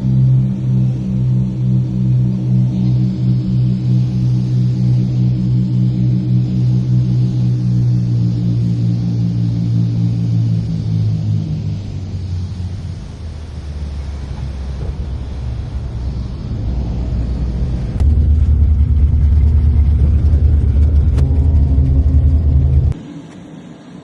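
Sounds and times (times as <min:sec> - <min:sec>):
low engine rumble: 0:00.0 - 0:23.2.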